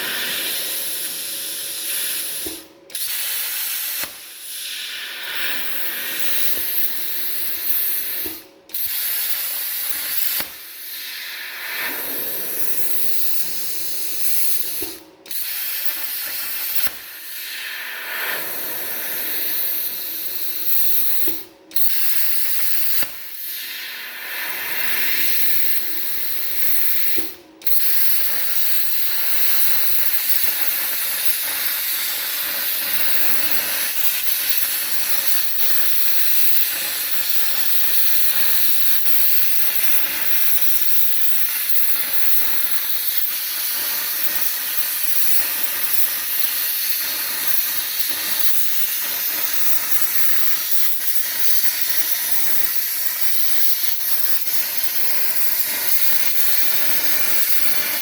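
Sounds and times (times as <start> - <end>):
plasma cutter hissing: 0.0 - 58.0.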